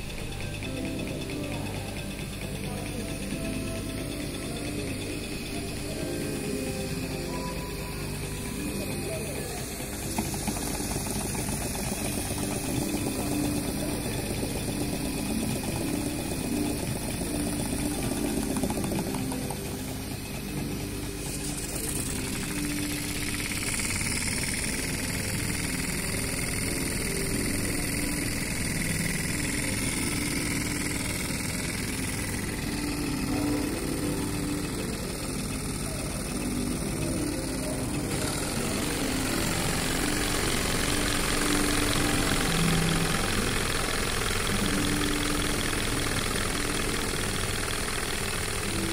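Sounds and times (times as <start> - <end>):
model steam engines chuffing: 0.0 - 48.9.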